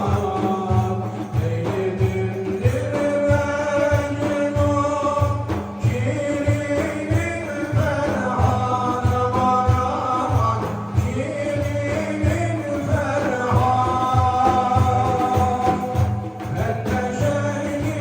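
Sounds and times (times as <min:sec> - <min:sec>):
person singing a hymn: 0:00.0 - 0:18.0
steady drum beat: 0:00.0 - 0:18.0.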